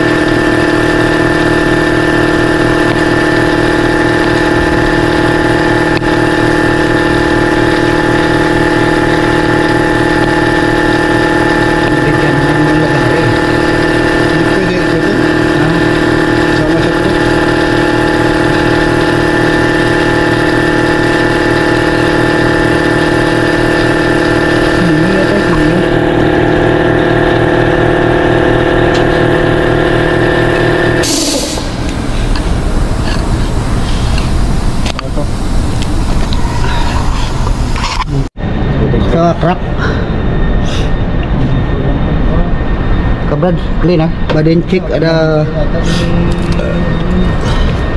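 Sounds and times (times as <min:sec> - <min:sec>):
air compressor droning: 0:00.0 - 0:47.9.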